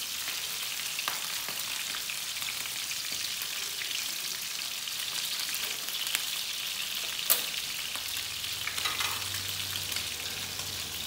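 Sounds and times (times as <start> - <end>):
ribs sizzling in a frying pan: 0.0 - 11.0.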